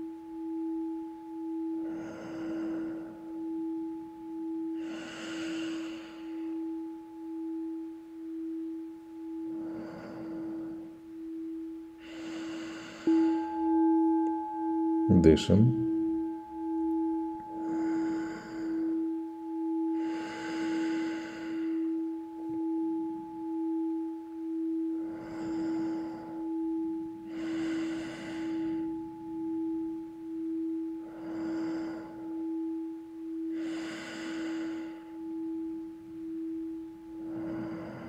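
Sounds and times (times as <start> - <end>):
singing bowl ringing: 0.0 - 38.0.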